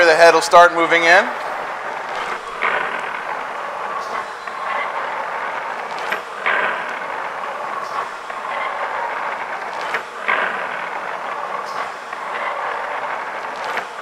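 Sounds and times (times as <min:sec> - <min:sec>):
surface grinder hiss and hum: 0:00.0 - 0:14.0.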